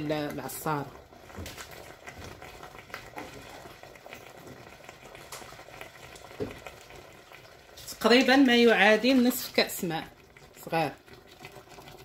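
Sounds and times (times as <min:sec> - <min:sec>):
sauce bubbling and crackling: 0:00.0 - 0:12.0.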